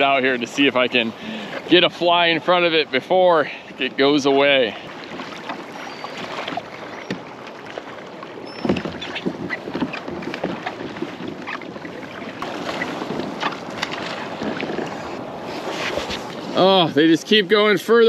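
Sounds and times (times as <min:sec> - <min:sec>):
water splashing along kayak hull: 0:00.0 - 0:18.0.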